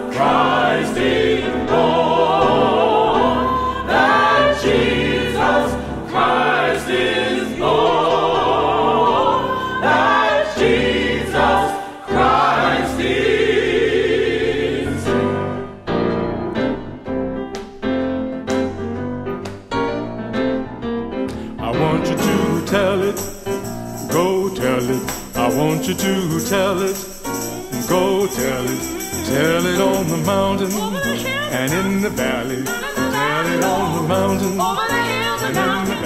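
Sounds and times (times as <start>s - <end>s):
choir singing with vibrato: 0.0s - 16.3s, 21.7s - 36.0s.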